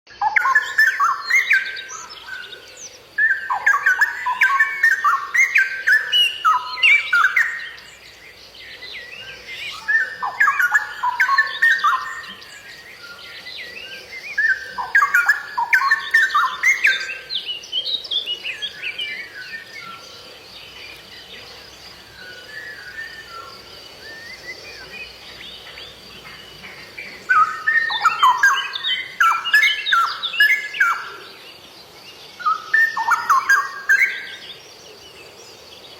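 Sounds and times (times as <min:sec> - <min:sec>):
songbird singing: 0:00.1 - 0:35.9.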